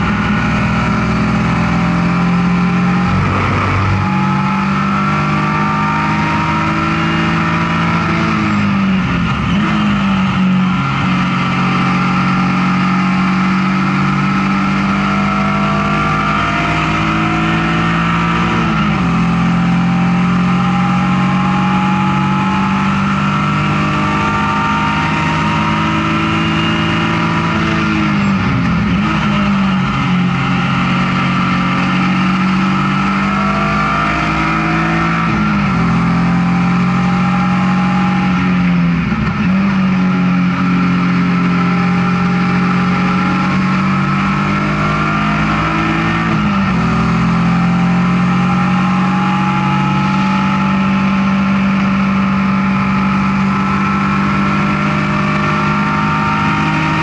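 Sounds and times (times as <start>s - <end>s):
race car engine revving: 0.0s - 57.0s
road and wind noise: 0.0s - 57.0s.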